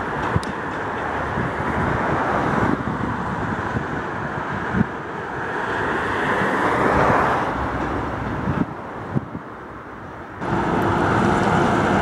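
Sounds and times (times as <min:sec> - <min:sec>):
wind buffeting microphone: 0:00.0 - 0:09.6
tram running along track: 0:00.0 - 0:12.0.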